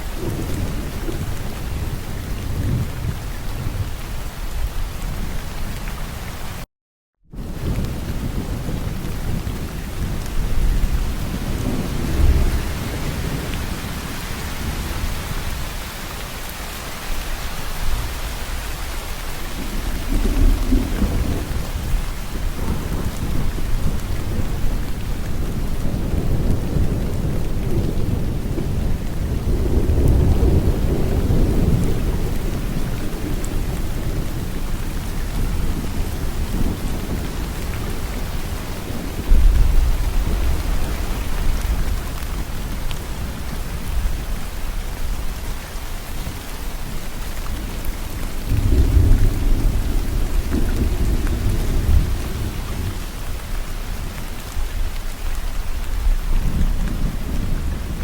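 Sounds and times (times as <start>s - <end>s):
thunder rumbling: 0.0s - 4.2s, 7.3s - 16.1s, 17.2s - 58.0s
heavy rain falling: 0.0s - 6.7s, 7.3s - 58.0s.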